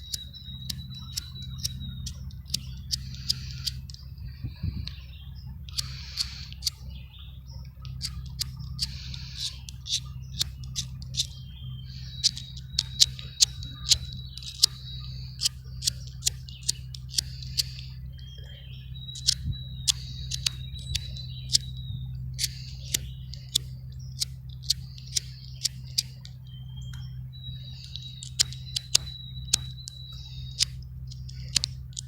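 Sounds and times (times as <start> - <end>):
sharp clicks: 0.0 - 4.1, 5.7 - 6.8, 7.8 - 18.0, 19.0 - 32.0.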